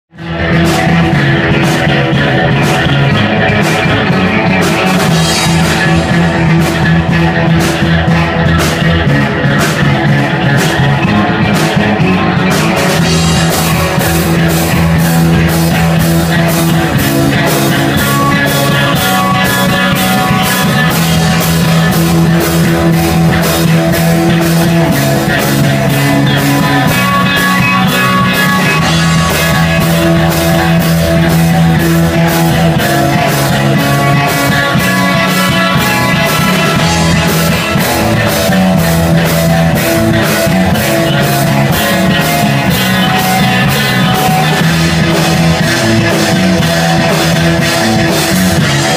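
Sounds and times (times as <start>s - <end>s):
amplified electric guitars: 0.1s - 48.9s
drum kit: 0.1s - 48.9s.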